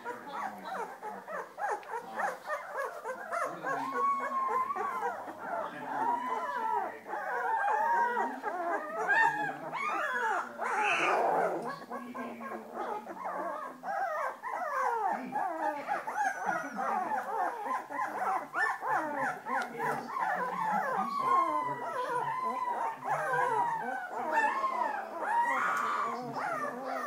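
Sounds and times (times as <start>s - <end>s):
puppies whining and squealing: 0.0s - 27.0s.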